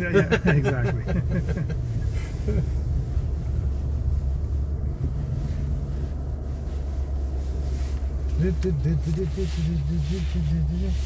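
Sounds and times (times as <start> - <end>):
pickup engine rumble: 0.0 - 11.0.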